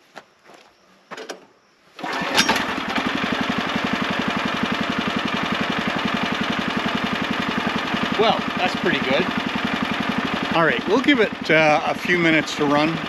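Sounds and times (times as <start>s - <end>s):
small engine starting and idling: 2.0s - 13.0s.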